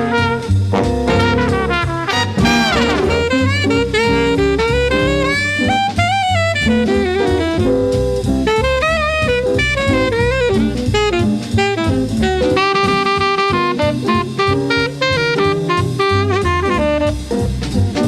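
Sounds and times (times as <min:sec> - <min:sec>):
bass: 0:00.0 - 0:18.0
drum kit: 0:00.0 - 0:18.0
trumpet jazz melody: 0:00.0 - 0:18.0.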